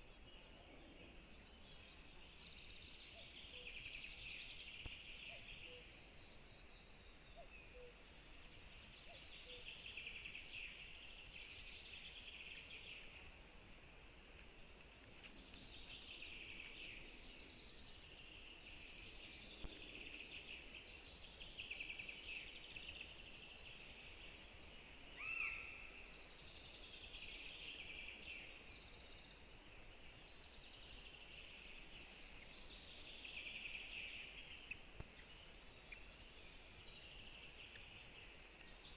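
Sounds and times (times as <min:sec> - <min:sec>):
faint birdsong trills and chirps: 0:00.0 - 0:38.9.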